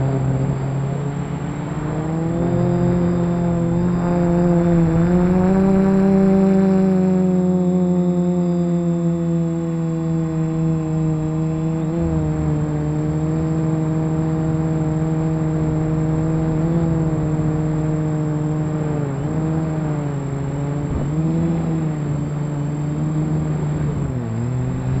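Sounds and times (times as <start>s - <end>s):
quadcopter motors humming: 0.0s - 25.0s
thin high whine: 0.0s - 25.0s.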